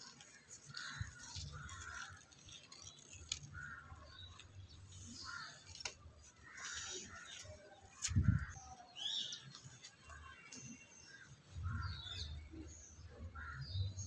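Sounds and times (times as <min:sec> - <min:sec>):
birds calling: 0:00.0 - 0:12.5.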